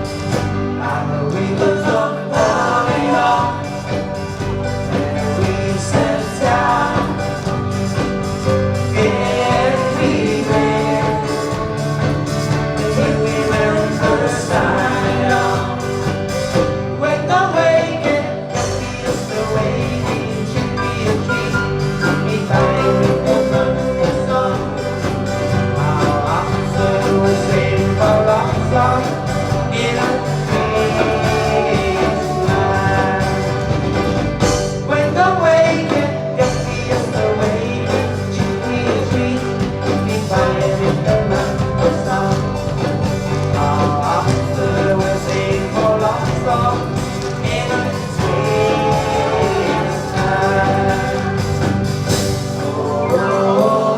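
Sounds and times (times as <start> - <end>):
lead singer singing: 0.0 - 53.9
live band playing pop song: 0.0 - 53.9.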